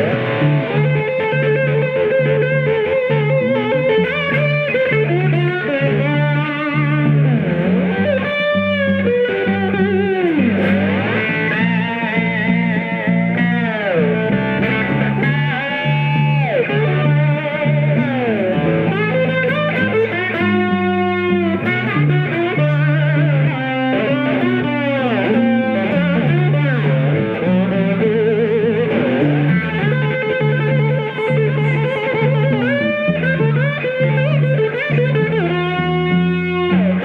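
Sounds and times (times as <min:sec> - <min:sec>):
blues electric guitar solo: 0:00.0 - 0:37.0
walking bass line on guitar: 0:00.0 - 0:37.0.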